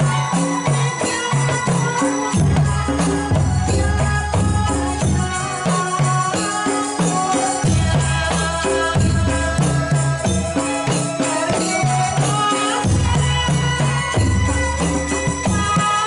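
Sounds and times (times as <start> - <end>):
drums and percussion beat: 0.0 - 16.0
woman singing into a microphone: 0.0 - 16.0.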